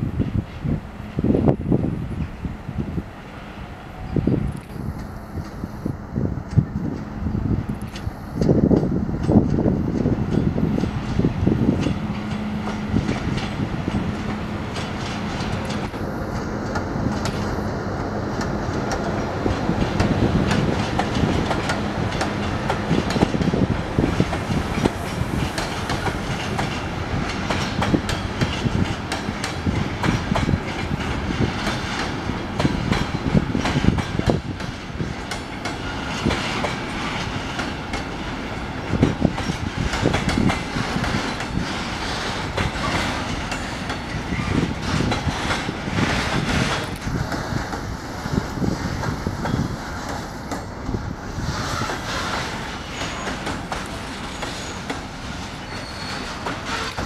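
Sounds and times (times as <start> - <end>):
freight train wagons rolling: 7.8 - 57.0
wheels clacking over rail joints: 7.8 - 57.0.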